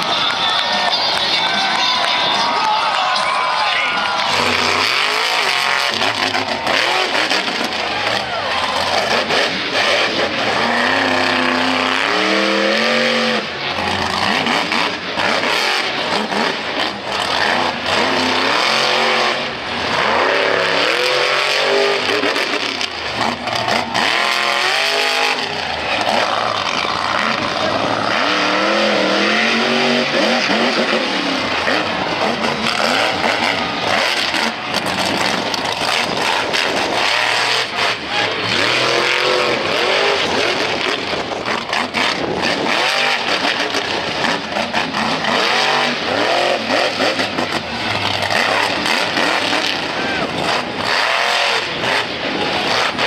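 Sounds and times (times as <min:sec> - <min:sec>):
monster truck engine revving: 0:00.0 - 0:53.0.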